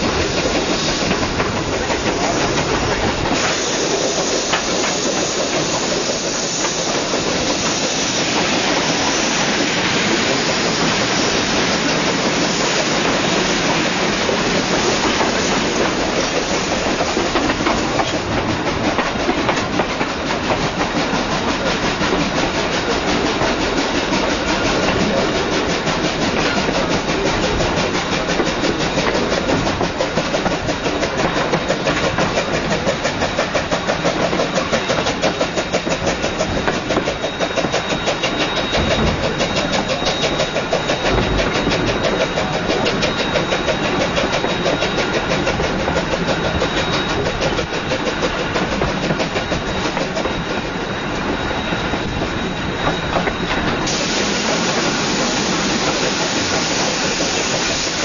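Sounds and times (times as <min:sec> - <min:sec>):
fast even beat of train: 0:00.0 - 0:58.0
steam locomotive hauling a train: 0:00.0 - 0:58.0.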